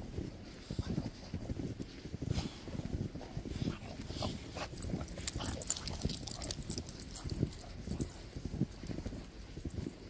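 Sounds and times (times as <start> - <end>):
boots crunching through snow: 0.0 - 10.0.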